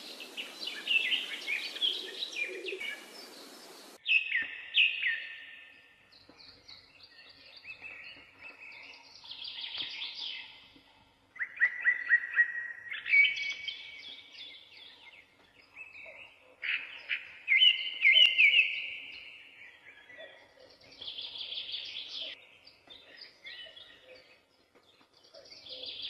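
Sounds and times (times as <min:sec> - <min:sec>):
small birds twittering: 0:00.0 - 0:26.0.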